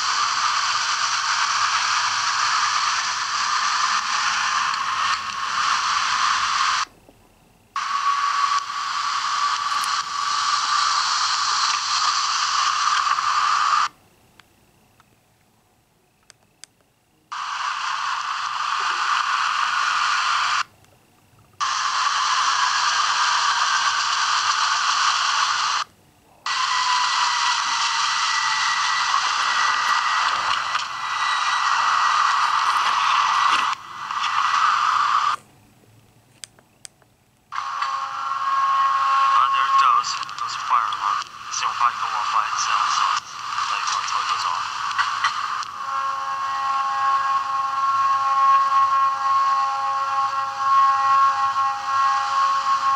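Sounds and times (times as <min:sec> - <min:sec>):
tinny static hiss: 0:00.0 - 0:52.9.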